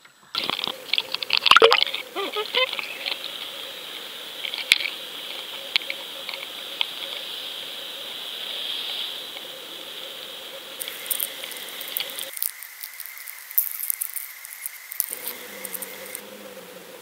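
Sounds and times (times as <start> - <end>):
muffled underwater hiss: 0.2 - 17.0.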